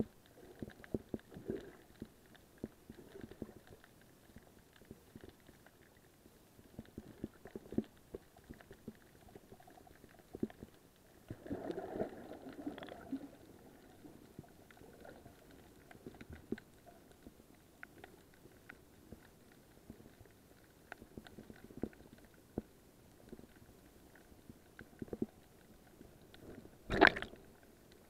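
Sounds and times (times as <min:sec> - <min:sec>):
muffled underwater clicks and knocks: 0:00.0 - 0:06.0, 0:06.7 - 0:28.0.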